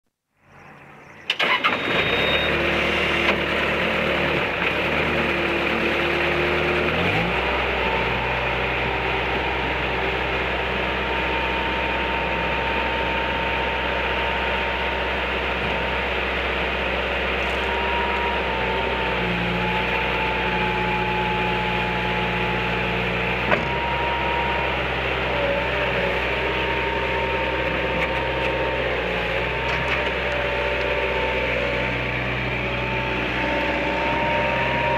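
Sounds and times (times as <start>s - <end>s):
hydraulic whine: 0.4s - 34.9s
diesel engine starting and revving: 0.5s - 34.9s.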